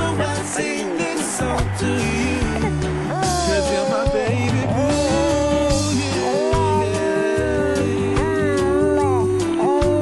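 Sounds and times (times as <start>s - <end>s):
person singing gliding melody: 0.0s - 10.0s
bass line: 1.4s - 10.0s.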